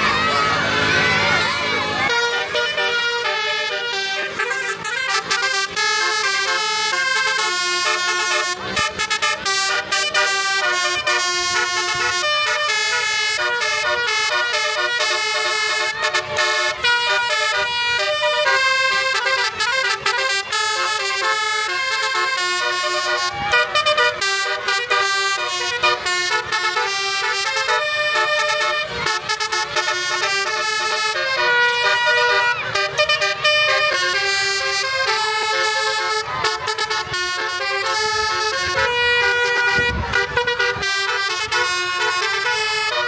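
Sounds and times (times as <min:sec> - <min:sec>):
multi-tone horn playing a melody: 0:02.0 - 0:43.0.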